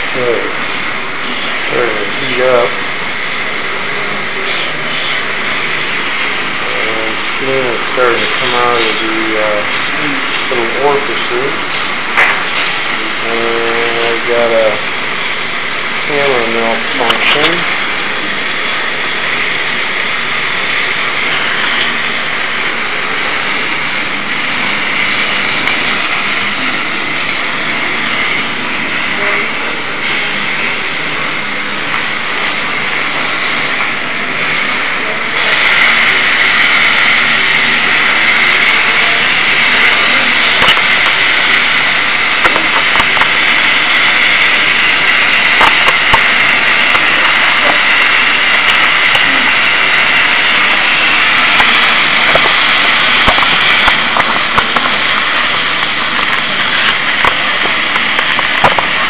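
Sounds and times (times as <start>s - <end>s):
steam engine hissing: 0.0s - 59.0s.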